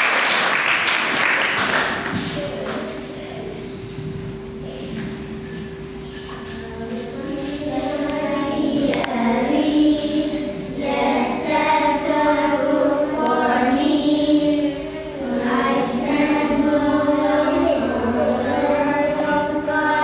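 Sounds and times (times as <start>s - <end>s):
children singing together: 0.0s - 20.0s.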